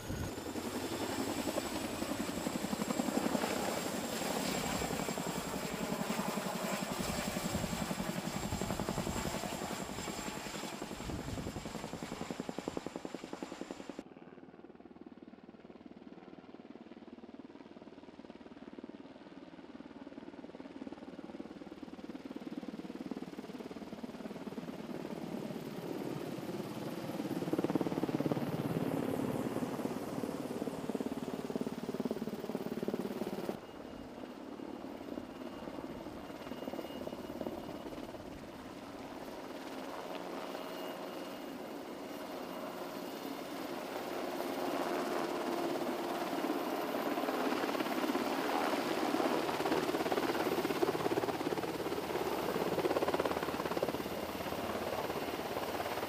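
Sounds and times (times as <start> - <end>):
helicopter running: 0.0 - 56.0.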